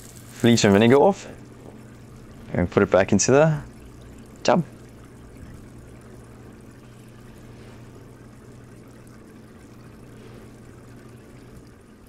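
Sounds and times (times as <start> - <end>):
air bubbling through bottles: 0.0 - 12.0
steady low hum: 0.0 - 12.0.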